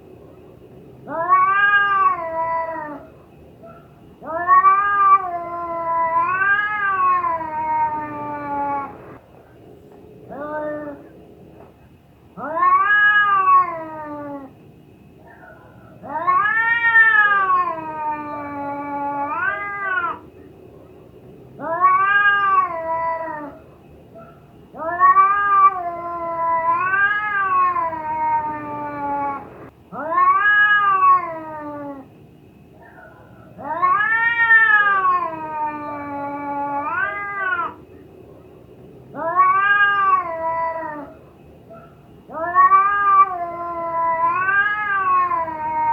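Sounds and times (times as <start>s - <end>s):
cat yowling: 1.0s - 9.2s, 10.2s - 11.1s, 12.4s - 14.6s, 15.3s - 20.3s, 21.5s - 32.1s, 32.8s - 37.8s, 39.1s - 45.9s.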